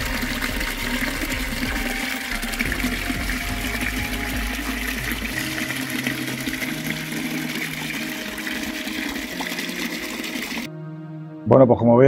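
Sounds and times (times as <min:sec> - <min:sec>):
water splashing into stone basin: 0:00.0 - 0:10.7.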